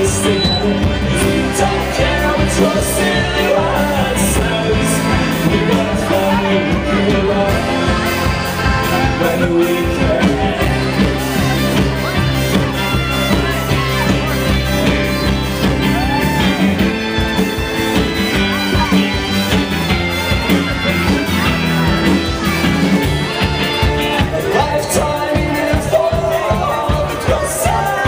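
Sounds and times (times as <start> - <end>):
fiddle: 0.0 - 26.9
accordion: 0.0 - 28.0
double bass: 0.0 - 28.0
drums: 0.0 - 28.0.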